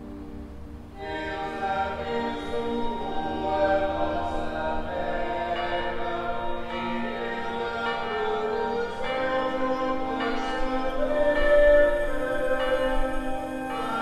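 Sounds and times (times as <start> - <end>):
choir singing sustained chords: 0.0 - 14.0.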